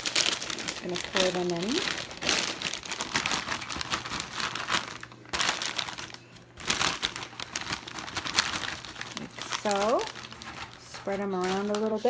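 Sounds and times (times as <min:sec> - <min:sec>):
fries clicking into basket: 0:00.0 - 0:12.0
packaging crinkling: 0:00.0 - 0:12.0.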